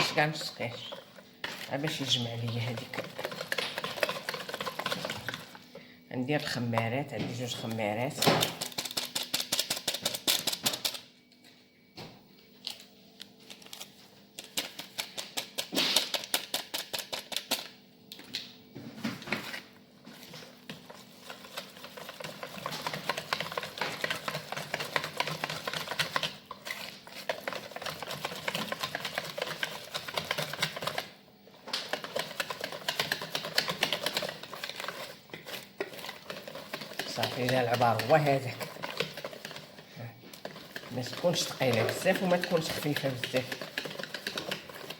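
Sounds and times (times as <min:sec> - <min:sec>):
utensil beating batter in a bowl: 0:00.0 - 0:11.1, 0:13.7 - 0:17.8, 0:19.2 - 0:44.9.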